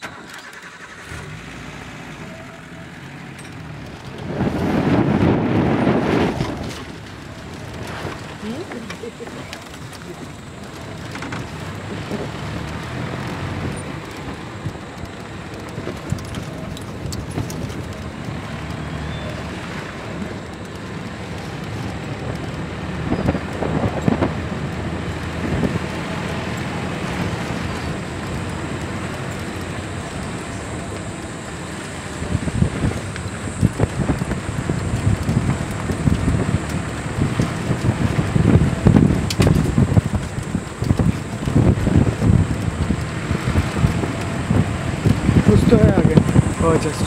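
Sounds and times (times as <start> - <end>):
vehicle engine and road noise: 0.0 - 47.0
knocks and rattles from bumps: 3.2 - 47.0.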